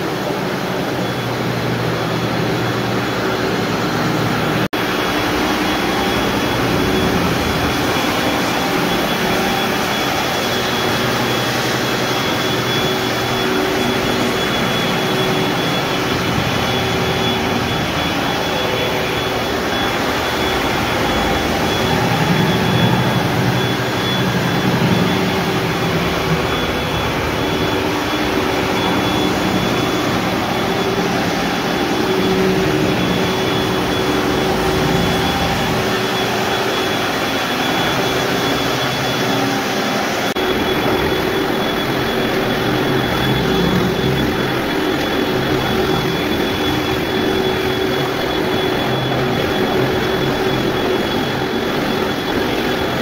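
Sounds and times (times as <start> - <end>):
floor scrubbing machine humming: 0.0 - 53.0.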